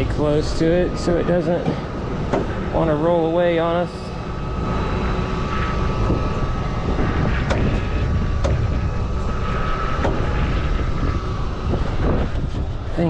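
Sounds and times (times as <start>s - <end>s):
thin steady whine: 0.0s - 13.0s
vehicle engine running: 0.0s - 13.0s.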